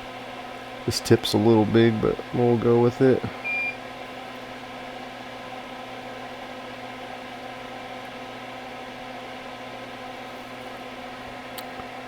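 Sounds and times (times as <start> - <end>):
electrical hum and whir: 0.0 - 12.0.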